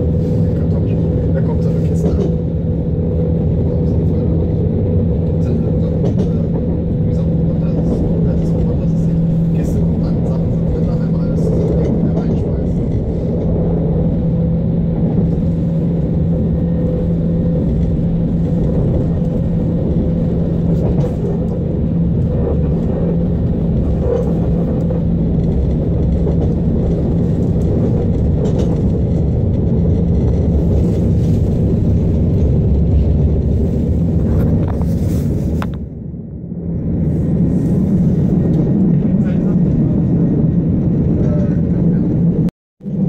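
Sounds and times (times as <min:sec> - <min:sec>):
constant low hum: 0:00.0 - 0:43.0
train rumbling along track: 0:00.0 - 0:43.0.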